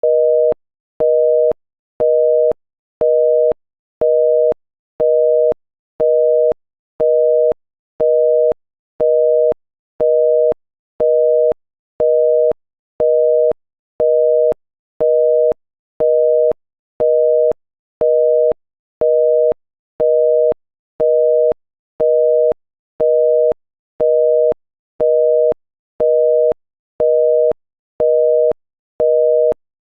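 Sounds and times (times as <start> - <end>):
telephone busy tone beeping: 0.0 - 29.6.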